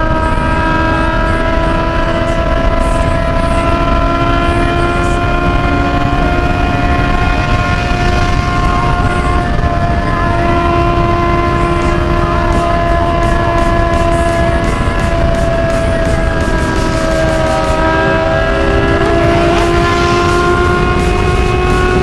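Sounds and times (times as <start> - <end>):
motorcycle engine high-pitched drone: 0.0 - 22.0
wind rush on microphone: 0.0 - 22.0.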